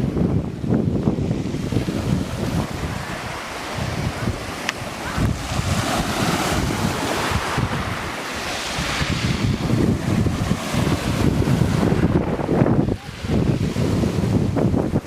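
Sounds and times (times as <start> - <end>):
waves on a stony shore: 0.0 - 15.0
wind rumbling on microphone: 0.0 - 15.0.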